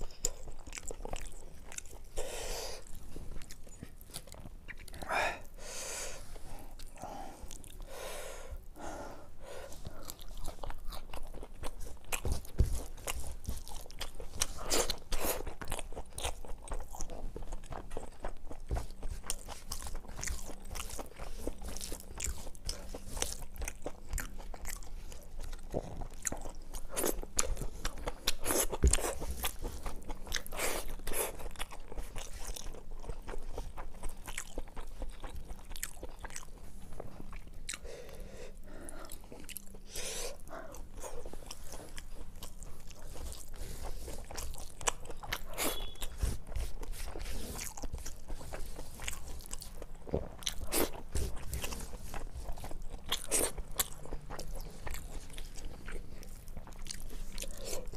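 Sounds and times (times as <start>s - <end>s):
chewing and crunching food: 0.0s - 57.9s.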